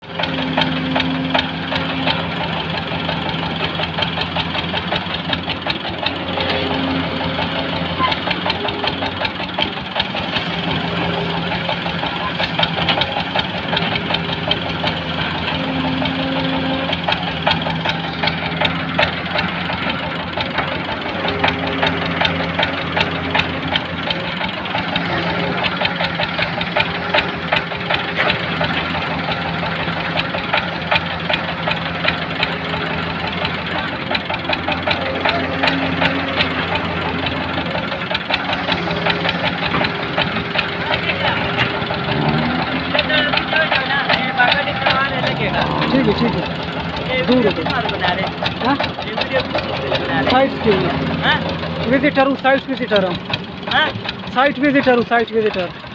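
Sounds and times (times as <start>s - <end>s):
excavator diesel engine clattering: 0.0s - 55.9s.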